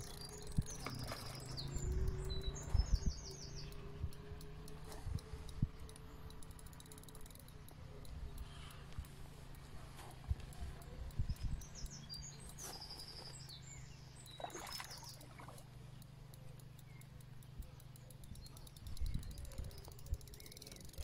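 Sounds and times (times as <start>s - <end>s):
small birds chirping: 0.0s - 21.0s
steady low hum: 0.0s - 21.0s.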